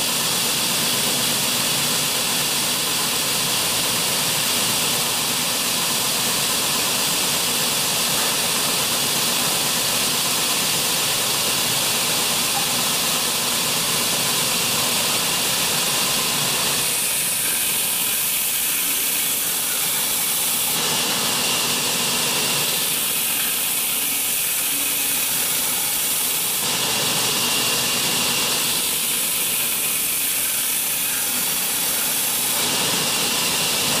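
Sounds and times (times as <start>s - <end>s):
belt sanding machine running: 0.0s - 34.0s.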